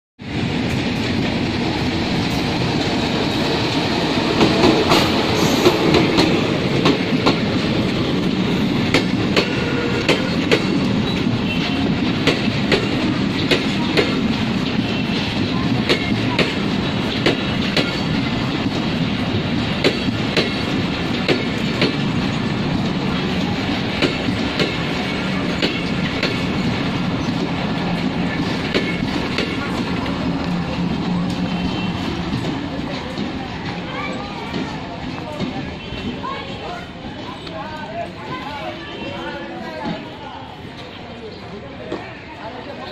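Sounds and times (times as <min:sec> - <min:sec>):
locomotive passing: 0:00.2 - 0:42.9
train coaches rumbling past: 0:00.2 - 0:42.9
wheels clacking over rail joints: 0:00.4 - 0:38.5.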